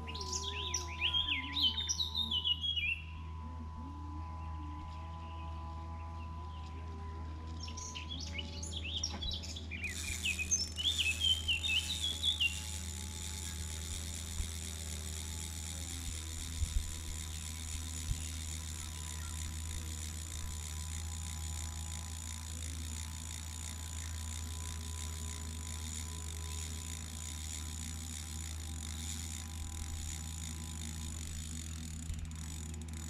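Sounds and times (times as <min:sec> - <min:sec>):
fishing reel ticking: 0:00.0 - 0:02.9, 0:07.5 - 0:33.0
low steady hum: 0:00.0 - 0:33.0.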